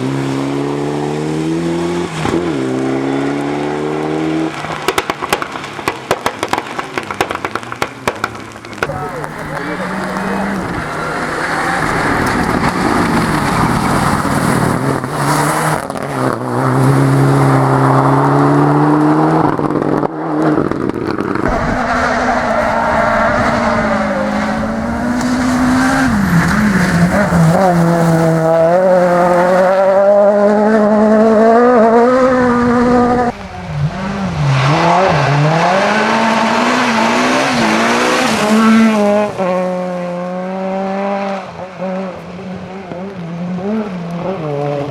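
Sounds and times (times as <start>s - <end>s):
rally car engines revving: 0.0s - 44.9s.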